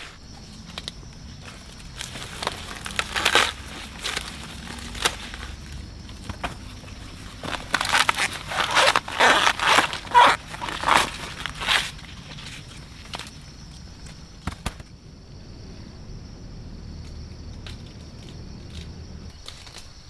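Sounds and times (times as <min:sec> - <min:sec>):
dry plants rustling and crunching: 0:00.0 - 0:14.9, 0:16.9 - 0:20.0.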